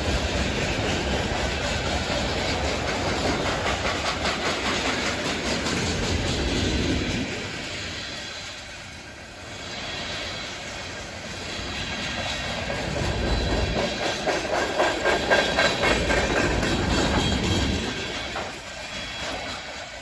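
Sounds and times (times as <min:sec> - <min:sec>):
train wheels clacking on rails: 0:00.0 - 0:20.0.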